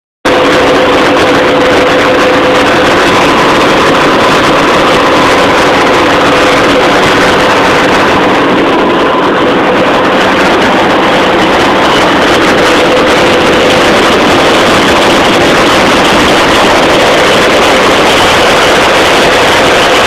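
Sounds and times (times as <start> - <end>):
constant whine: 0.2 - 20.0
tractor engine running: 0.2 - 20.0.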